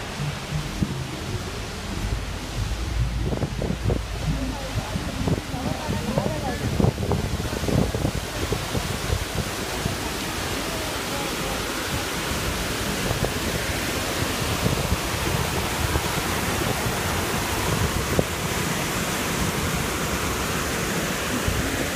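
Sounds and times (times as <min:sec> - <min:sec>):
waterfall rushing over boulders: 0:00.0 - 0:21.9.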